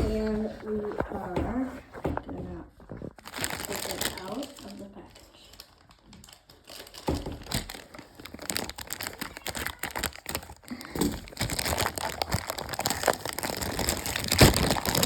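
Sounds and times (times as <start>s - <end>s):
packaging crinkling: 2.7s - 15.0s.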